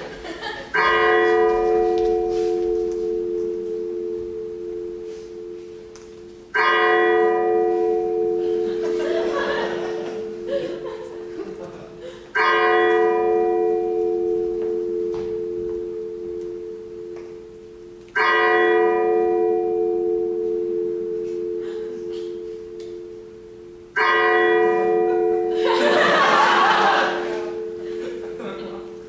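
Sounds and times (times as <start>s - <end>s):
bell tolling: 0.0s - 29.0s.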